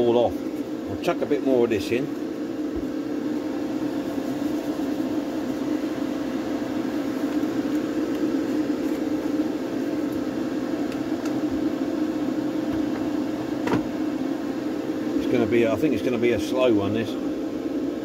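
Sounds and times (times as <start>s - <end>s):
extractor fan humming: 0.0s - 18.0s.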